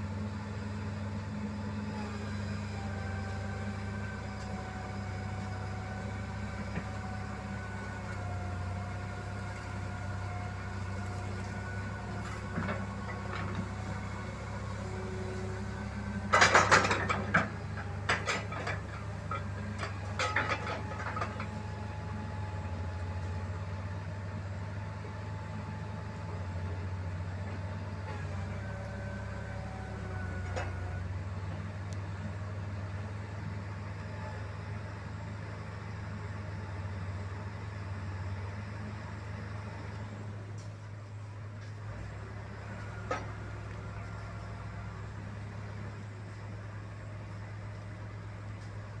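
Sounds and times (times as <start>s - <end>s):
engine running: 0.0s - 49.0s.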